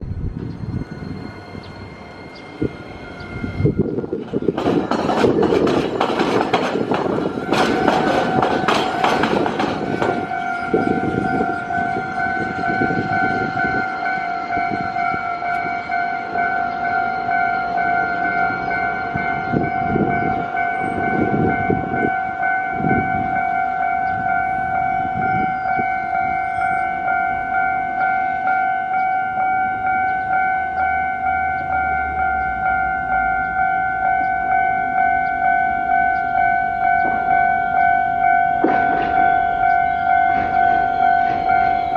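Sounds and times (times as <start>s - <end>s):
level-crossing warning bell: 0.0s - 41.9s
rail wheels clattering: 0.2s - 41.9s.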